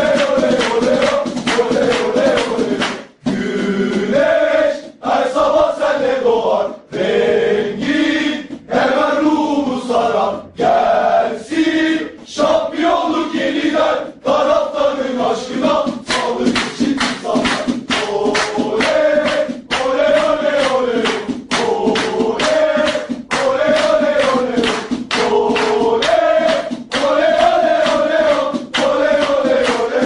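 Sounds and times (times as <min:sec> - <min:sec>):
men chanting in unison: 0:00.0 - 0:30.0.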